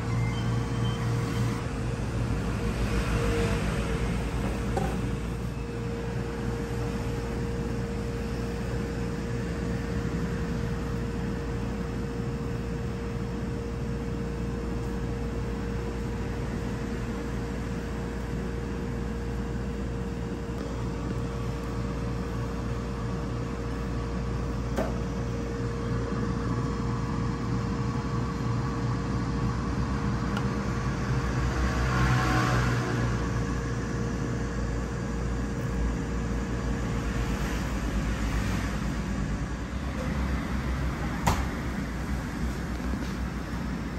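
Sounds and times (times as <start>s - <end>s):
machinery humming: 0.0s - 43.9s.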